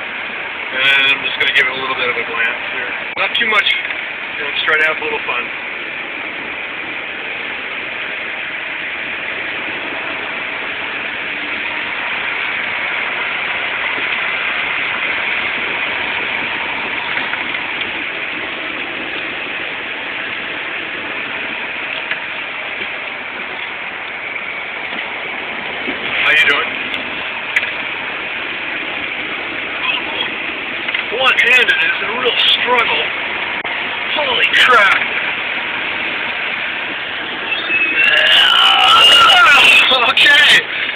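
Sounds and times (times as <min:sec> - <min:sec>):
car engine running: 0:00.0 - 0:40.9
road and wind noise: 0:00.0 - 0:40.9.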